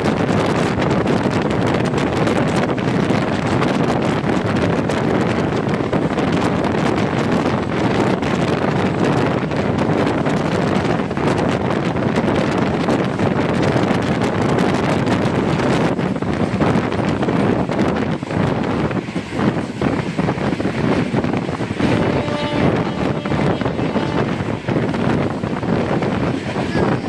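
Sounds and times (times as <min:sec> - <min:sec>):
train coach rumbling on track: 0:00.0 - 0:27.0
wind buffeting microphone: 0:00.0 - 0:27.0.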